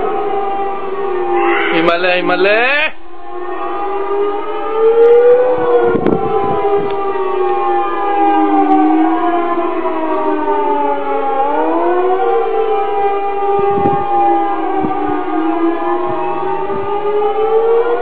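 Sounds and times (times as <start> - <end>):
air-raid sirens wailing: 0.0 - 18.0.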